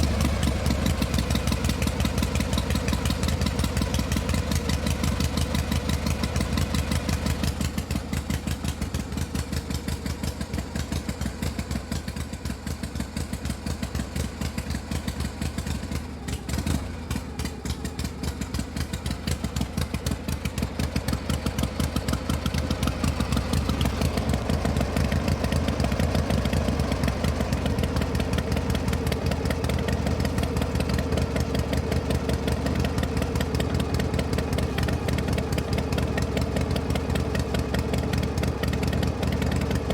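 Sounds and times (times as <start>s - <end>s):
engine clunk: 0.0s - 11.4s, 14.8s - 39.9s
vehicle engine idling: 0.0s - 39.9s.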